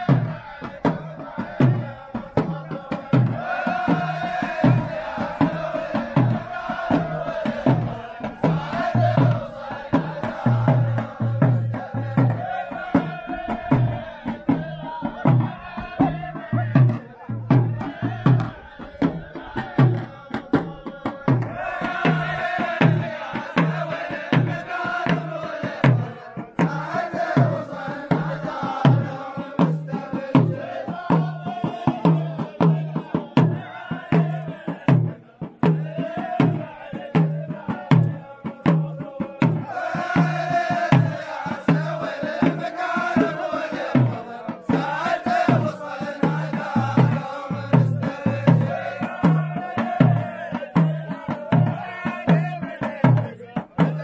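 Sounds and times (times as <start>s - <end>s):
hand drums beating: 0.0s - 54.0s
men chanting in unison: 0.0s - 54.0s.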